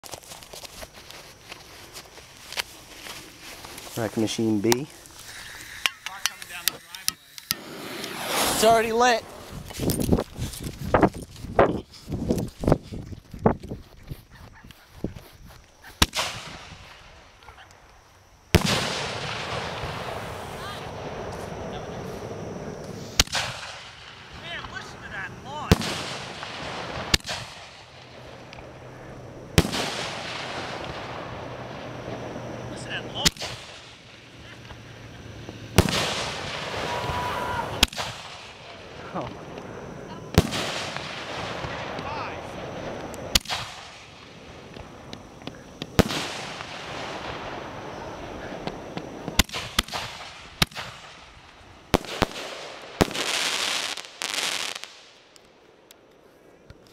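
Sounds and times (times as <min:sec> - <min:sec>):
firework shells bursting: 0:03.3 - 0:11.6, 0:17.7 - 0:56.9.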